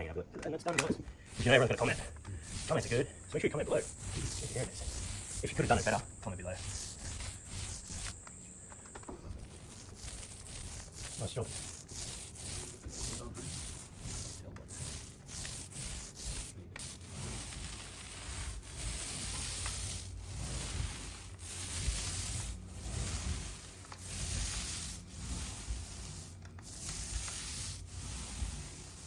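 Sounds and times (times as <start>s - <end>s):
rubbing strokes on drywall ceiling: 1.1s - 29.0s.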